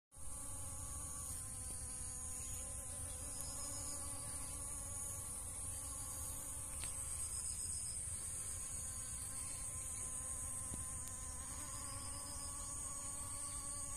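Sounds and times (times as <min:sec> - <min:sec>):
honeybees buzzing: 0:00.2 - 0:13.9
high-pitched insect drone: 0:00.4 - 0:13.9.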